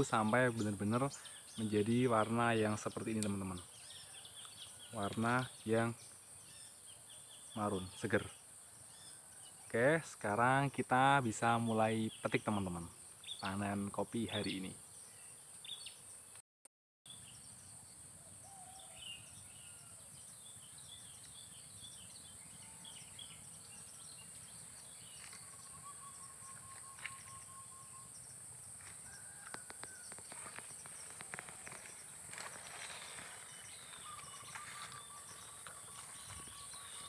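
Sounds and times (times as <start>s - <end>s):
insects droning: 0.0s - 16.2s, 17.2s - 37.0s
birds chirping: 0.0s - 16.4s, 18.4s - 37.0s.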